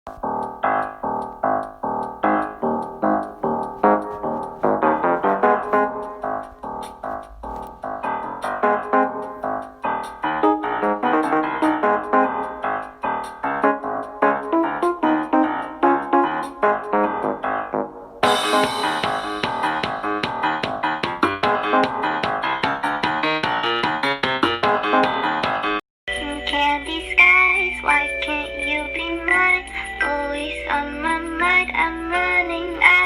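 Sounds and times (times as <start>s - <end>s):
piano melody: 0.1s - 33.0s.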